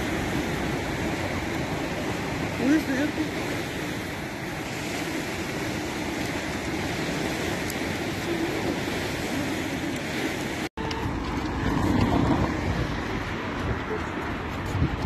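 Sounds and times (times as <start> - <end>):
sea waves washing against a wall: 0.0 - 15.0.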